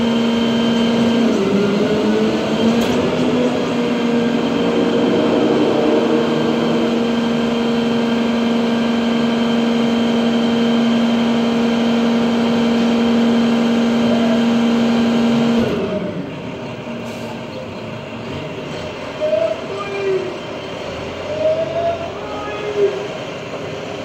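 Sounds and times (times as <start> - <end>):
garbage truck engine droning: 0.0 - 24.0.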